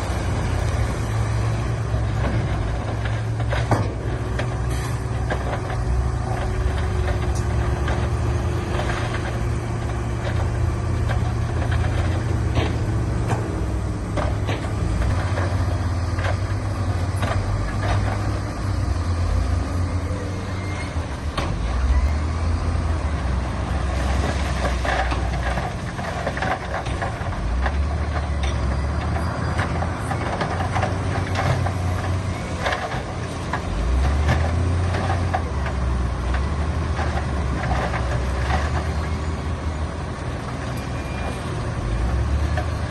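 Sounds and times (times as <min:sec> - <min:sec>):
diesel machinery engine rumble: 0:00.0 - 0:42.9.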